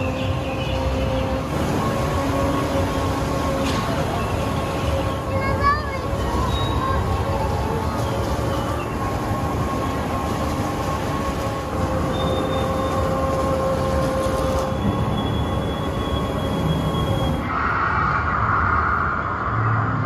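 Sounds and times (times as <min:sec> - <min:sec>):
long squeal-like tones: 0:00.0 - 0:20.0
mechanical rumble: 0:00.0 - 0:20.0.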